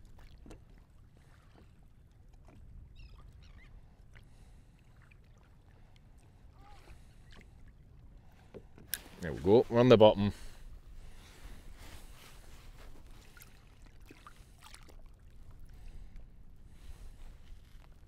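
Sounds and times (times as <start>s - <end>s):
water rumbling along kayak hull: 0.0s - 18.0s.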